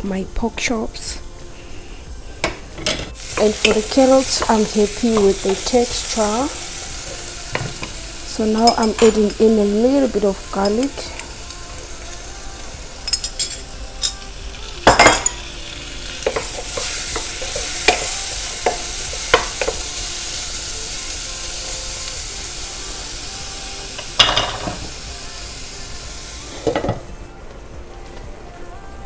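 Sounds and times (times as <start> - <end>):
garlic sizzling in butter: 2.4 - 27.1.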